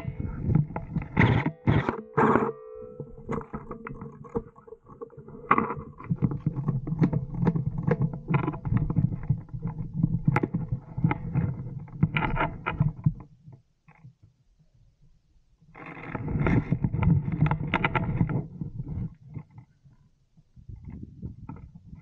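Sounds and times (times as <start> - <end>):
gear rubbing and knocking on microphone: 0.0 - 14.2, 15.7 - 19.8, 20.6 - 22.0.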